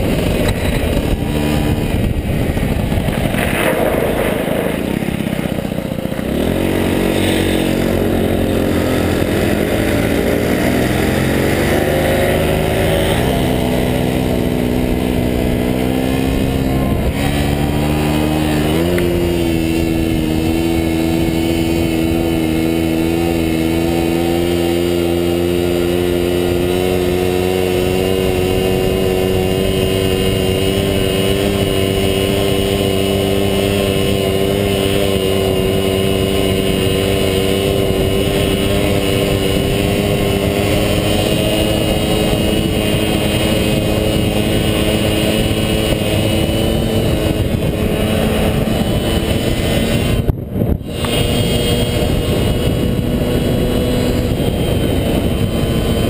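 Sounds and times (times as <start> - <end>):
moped engine at high revs: 0.0 - 56.0
wind rumble on microphone: 0.0 - 56.0.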